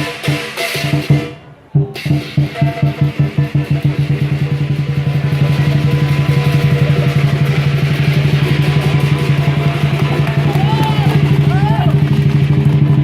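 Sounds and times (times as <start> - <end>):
big drum beating: 0.0 - 13.0
cymbals clashing: 0.0 - 13.0.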